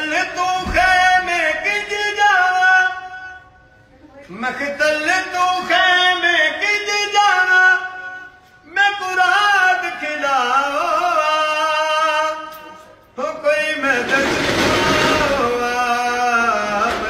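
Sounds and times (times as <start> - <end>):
elderly man singing unaccompanied: 0.0 - 3.5, 4.3 - 12.6, 13.2 - 17.0.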